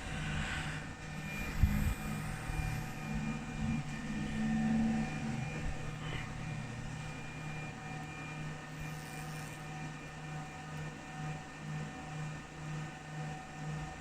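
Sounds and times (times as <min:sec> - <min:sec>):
machine electrical hum: 0:00.0 - 0:14.0
thin constant tones: 0:00.0 - 0:14.0.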